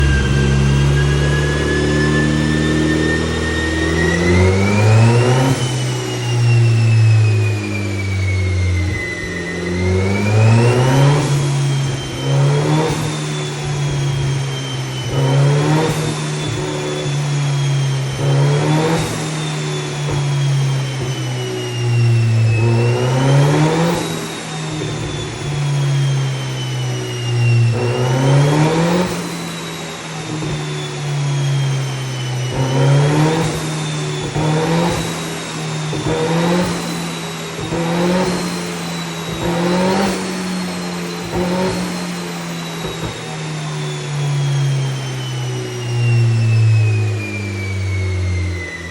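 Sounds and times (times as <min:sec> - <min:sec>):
car engine revving: 0:00.0 - 0:48.9
high turbo whine: 0:00.0 - 0:48.9.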